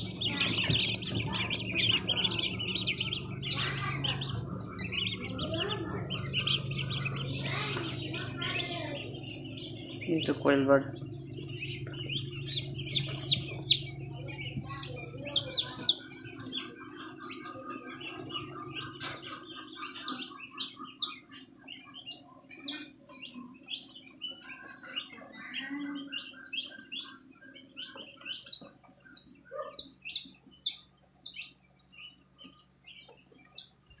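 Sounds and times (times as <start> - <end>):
chicks peeping: 0.0 - 34.0
low steady hum: 0.0 - 34.0.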